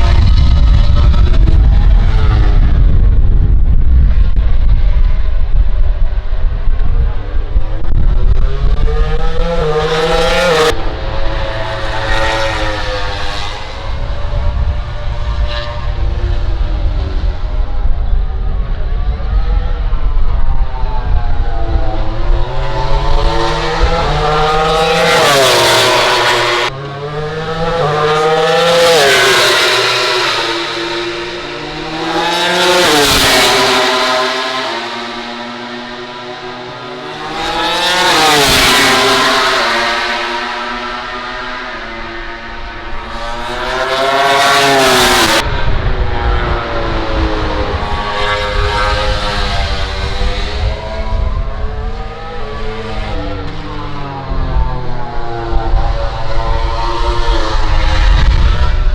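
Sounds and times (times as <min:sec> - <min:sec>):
racing motorcycles passing by: 0:00.0 - 0:58.9.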